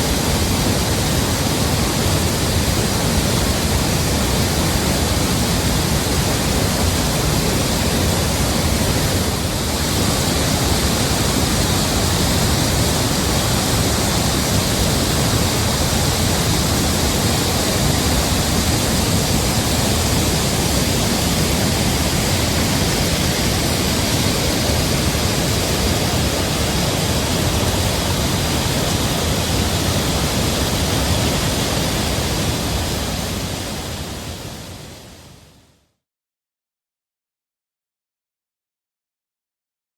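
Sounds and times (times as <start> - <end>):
mountain stream rushing over rocks: 0.0 - 35.6.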